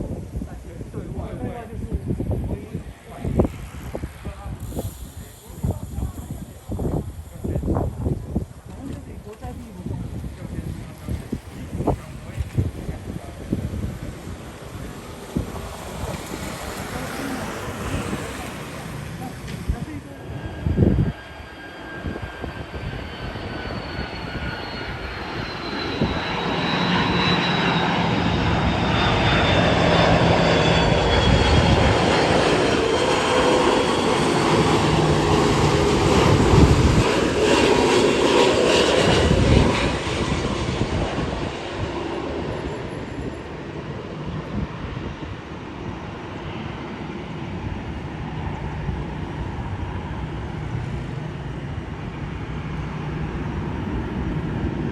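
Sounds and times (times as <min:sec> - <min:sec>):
jet engine whine: 0:00.0 - 0:54.9.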